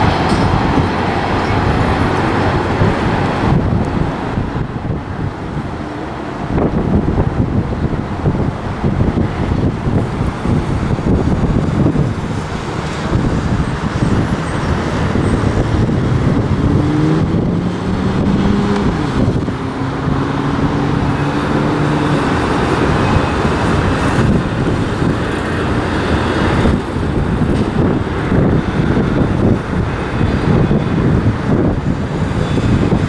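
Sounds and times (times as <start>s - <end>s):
jet airliner rumble: 0.0s - 33.0s
road traffic: 0.0s - 33.0s
vehicle engine rising: 0.0s - 33.0s.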